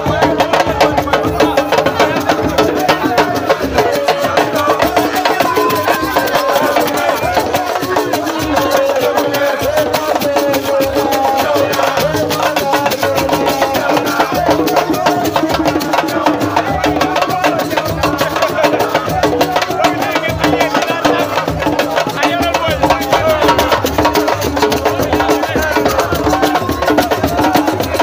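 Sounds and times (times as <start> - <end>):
crowd singing and chanting: 0.0 - 28.0
fast drumming: 0.0 - 28.0.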